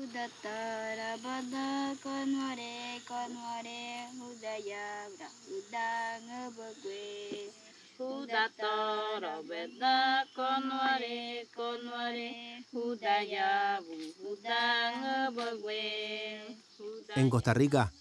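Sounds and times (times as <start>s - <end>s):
person singing unaccompanied: 0.0s - 18.0s.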